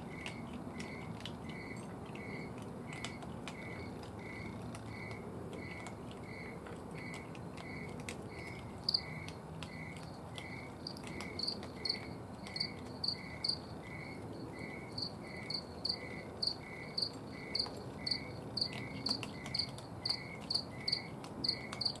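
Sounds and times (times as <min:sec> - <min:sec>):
low-pitched cricket chirping: 0:00.0 - 0:22.0
faint clicks: 0:00.1 - 0:13.5, 0:17.0 - 0:22.0.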